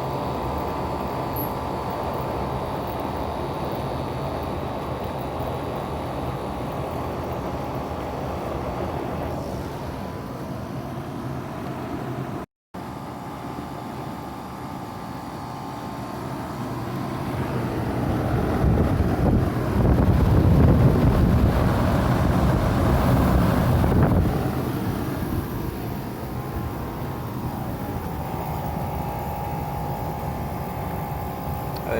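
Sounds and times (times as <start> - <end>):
air conditioner running: 0.0 - 31.9.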